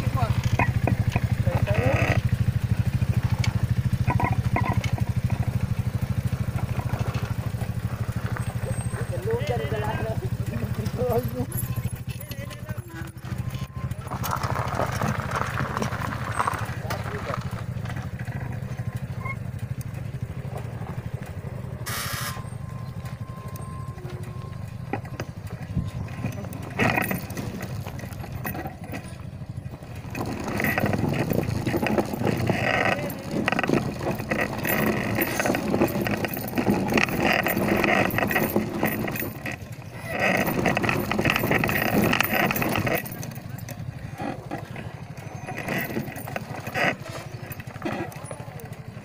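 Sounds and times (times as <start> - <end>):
more motorcycles approaching: 0.0 - 49.0
motorcycle engine idling: 0.0 - 49.0.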